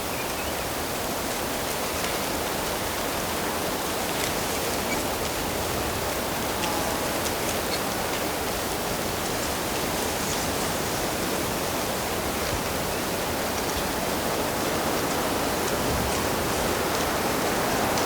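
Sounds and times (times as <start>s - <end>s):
flowing water rushing: 0.6s - 18.0s.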